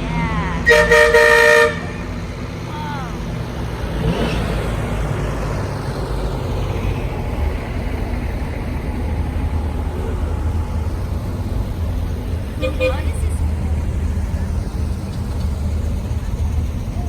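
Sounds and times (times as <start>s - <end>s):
cars driving past: 0.0s - 17.0s
tyre and road noise: 0.0s - 17.0s.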